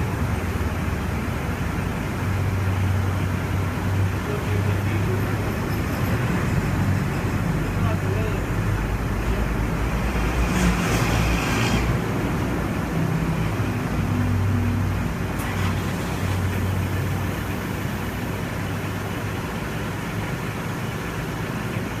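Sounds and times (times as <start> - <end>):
low vehicle engine hum: 0.0 - 22.0
road traffic noise: 0.0 - 22.0.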